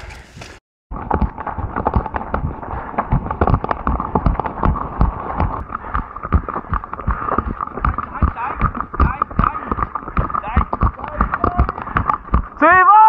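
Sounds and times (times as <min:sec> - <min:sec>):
footsteps on gravel: 0:00.0 - 0:12.9
trekking poles clicking on ground: 0:00.0 - 0:13.0.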